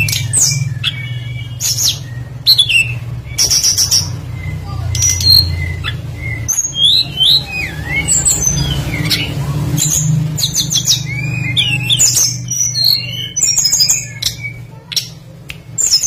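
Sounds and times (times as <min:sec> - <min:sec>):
songbird singing: 0:00.0 - 0:16.0
steady low hum: 0:00.0 - 0:16.0.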